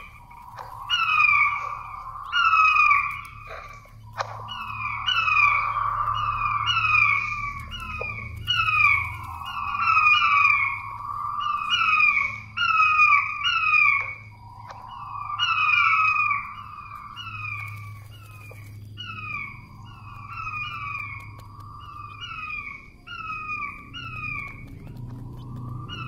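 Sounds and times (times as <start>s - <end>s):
quail whistled call: 0.0s - 26.0s.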